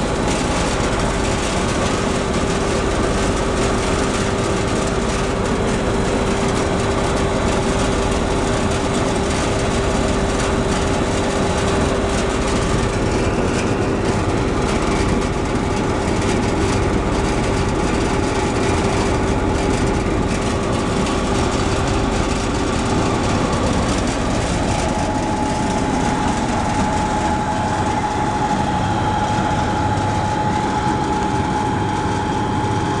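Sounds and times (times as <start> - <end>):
peeling machine humming and whining: 0.0 - 33.0.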